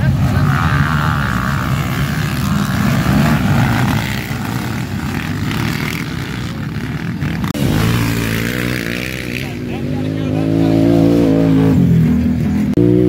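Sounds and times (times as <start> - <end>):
racing quad engines: 0.0 - 13.0.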